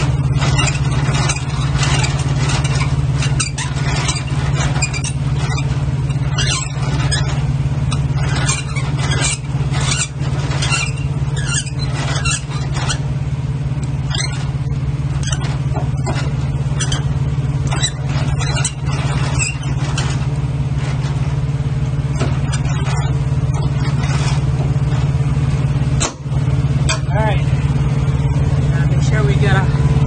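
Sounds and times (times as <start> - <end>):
crank squeaks and scrapes: 0.0 - 30.0
truck engine idling: 0.0 - 30.0.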